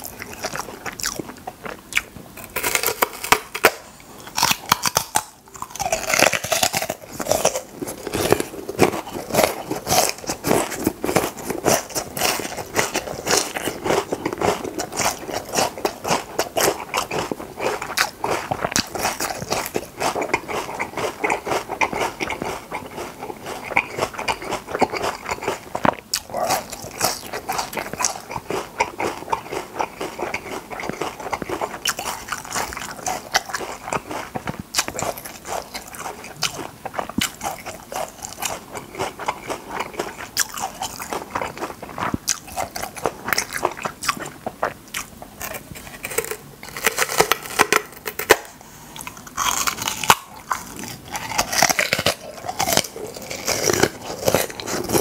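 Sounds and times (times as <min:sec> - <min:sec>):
crisp wet chewing crunches: 0:00.0 - 0:55.0.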